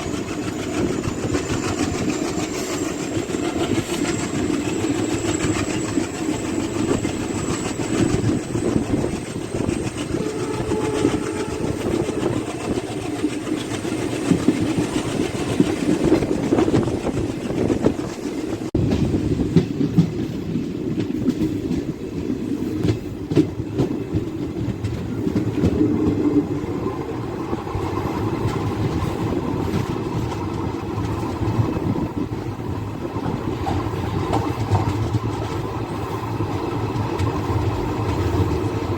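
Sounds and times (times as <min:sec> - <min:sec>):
train rumble: 0:00.0 - 0:38.9
wheels clacking over rail joints: 0:00.0 - 0:38.9.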